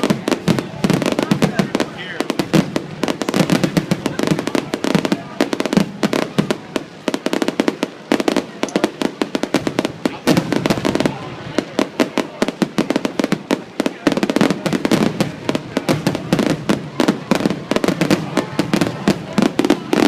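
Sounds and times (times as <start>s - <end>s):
fireworks exploding and crackling: 0.0s - 20.0s.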